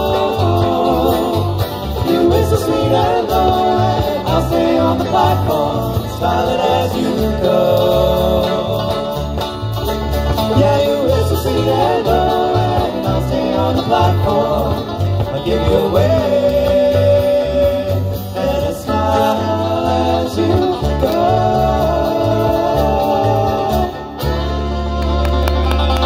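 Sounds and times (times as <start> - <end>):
bluegrass band playing: 0.0 - 26.0
fiddle sliding notes: 0.0 - 26.0.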